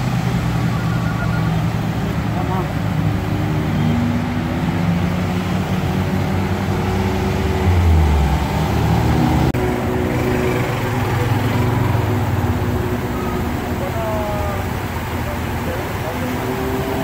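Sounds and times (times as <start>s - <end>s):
heavy engine rumble: 0.0s - 17.0s
road traffic engines: 0.0s - 17.0s.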